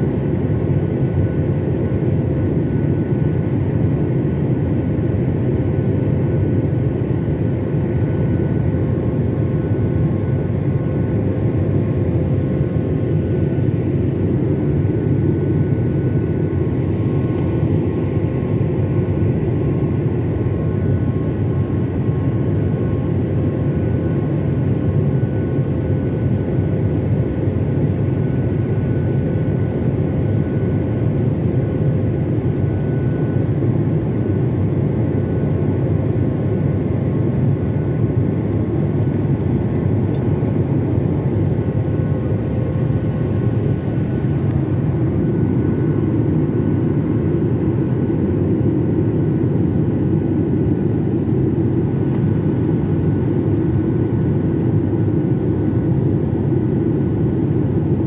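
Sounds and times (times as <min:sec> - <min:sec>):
faint steady whining tones: 0:00.0 - 0:58.0
jet engine cabin rumble: 0:00.0 - 0:58.0.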